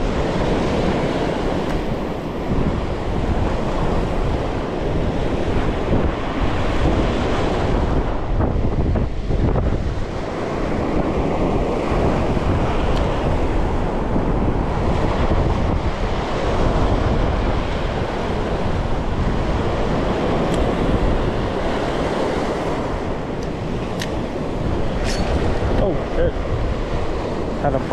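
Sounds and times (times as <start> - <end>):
surf washing over rocks: 0.0 - 27.9
wind buffeting microphone: 0.0 - 27.9.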